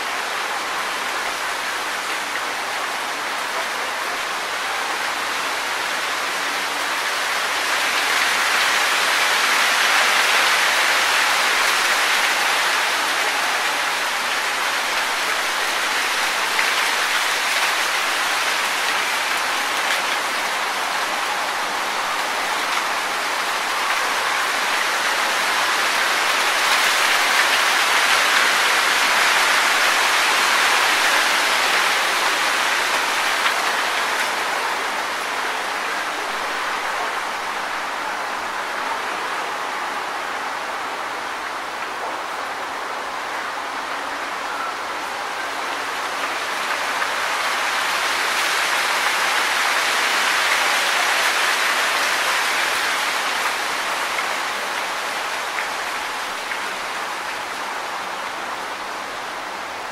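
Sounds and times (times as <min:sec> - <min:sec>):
wind rustling tree leaves: 0:00.0 - 0:59.9.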